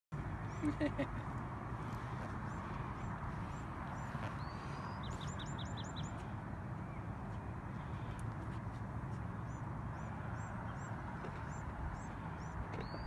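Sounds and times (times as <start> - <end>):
songbirds chirping: 0.2 - 13.0.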